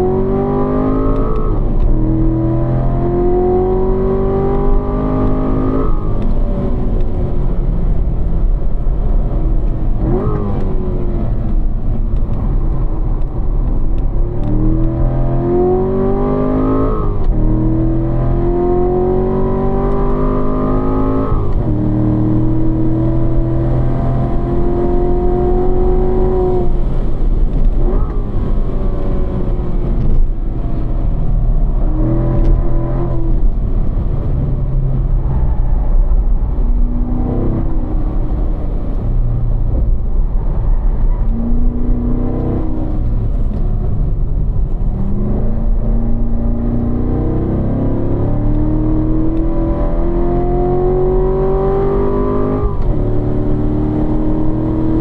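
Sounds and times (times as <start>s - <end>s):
car engine revving: 0.0s - 55.0s
road and tyre noise: 0.0s - 55.0s.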